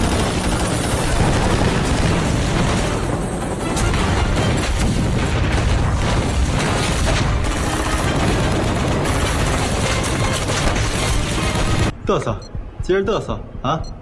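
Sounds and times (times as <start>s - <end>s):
continuous gunfire: 0.0s - 12.0s
heavy booming blasts: 0.0s - 12.0s.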